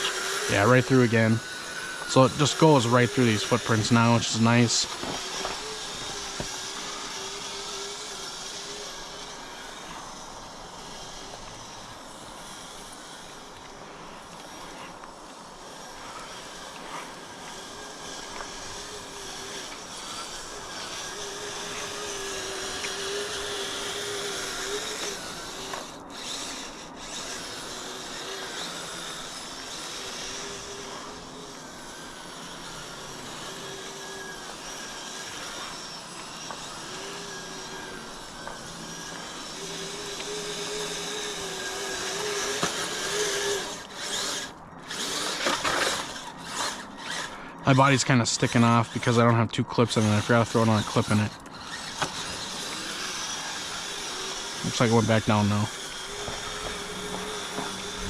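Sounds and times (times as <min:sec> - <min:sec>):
metal tracks running on snow: 0:00.0 - 0:49.2
electric motors whining: 0:00.0 - 0:58.0.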